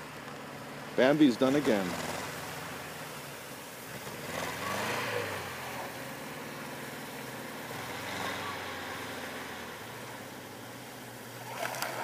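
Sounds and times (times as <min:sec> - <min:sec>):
tracks churning through wet snow: 0:00.0 - 0:12.0
vehicle engine running: 0:00.0 - 0:12.0.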